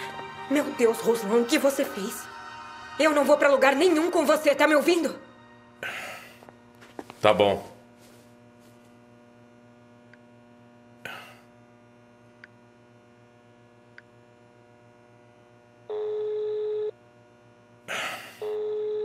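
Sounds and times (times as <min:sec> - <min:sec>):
low electrical hum: 0:03.0 - 0:19.0.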